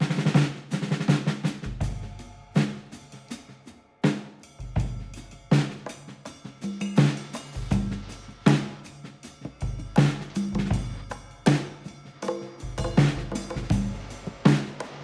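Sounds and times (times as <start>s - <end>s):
music with drum beat: 0.0s - 15.0s.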